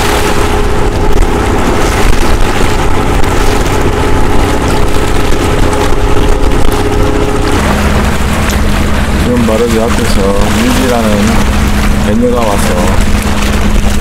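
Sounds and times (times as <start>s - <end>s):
boat engine humming: 0.0s - 14.0s
wind rumble on microphone: 0.0s - 14.0s.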